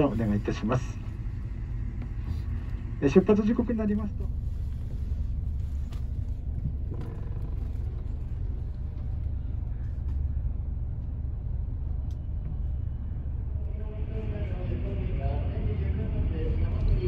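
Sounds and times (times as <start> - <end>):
coach rumbling from inside: 0.0 - 16.6.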